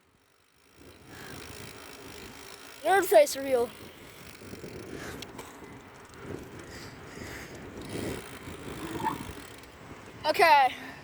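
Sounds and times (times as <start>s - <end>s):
bicycle tyres rumbling: 0.0s - 11.0s.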